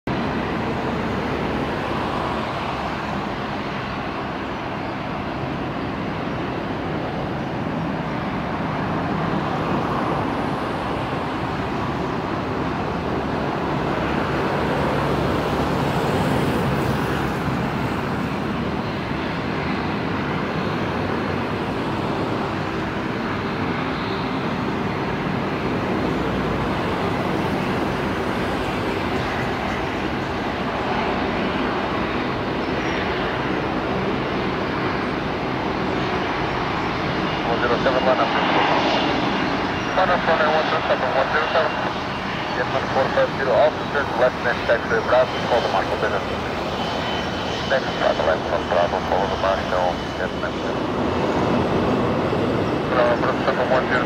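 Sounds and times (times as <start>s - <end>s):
jet engines landing: 0.1s - 54.0s.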